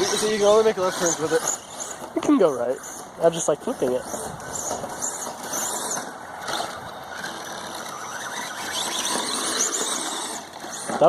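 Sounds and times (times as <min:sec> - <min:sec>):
rc truck electric motor whining: 0:00.0 - 0:11.0
tyre and ground noise: 0:00.0 - 0:11.0.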